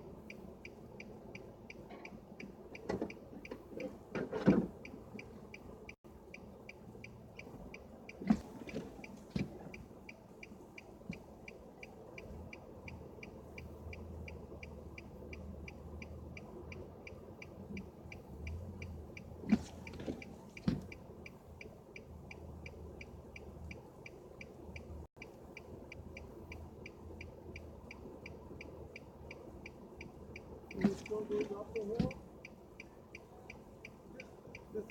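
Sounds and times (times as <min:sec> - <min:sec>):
car indicator ticking: 0:00.0 - 0:34.9.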